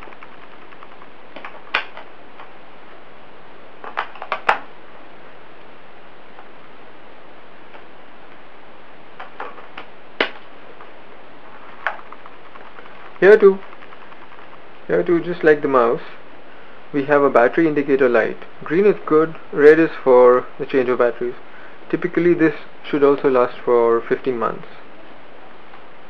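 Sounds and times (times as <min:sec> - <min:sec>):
low hiss: 0:00.0 - 0:26.0.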